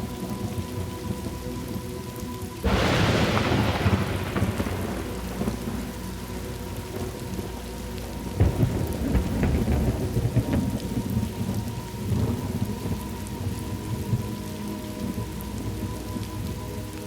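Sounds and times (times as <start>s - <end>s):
steady rain: 0.0s - 17.0s
thunder clap and rumble: 2.6s - 16.8s.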